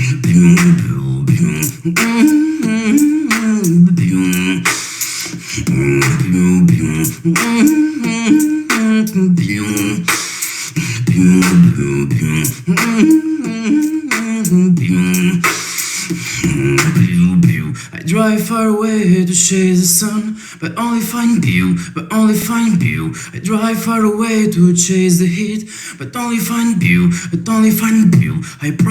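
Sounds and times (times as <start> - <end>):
person beatboxing: 0.0 - 18.5, 20.8 - 24.6, 26.2 - 28.9.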